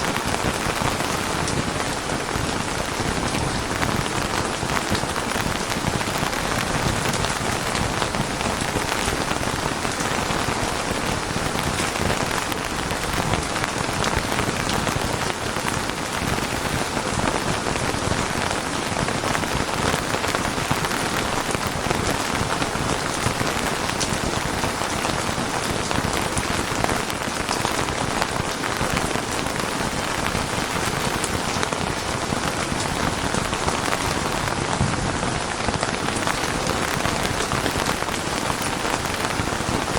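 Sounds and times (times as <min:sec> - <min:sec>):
raindrops ticking: 0:00.0 - 0:35.0, 0:35.8 - 0:39.9
steady rain patter: 0:00.0 - 0:39.9.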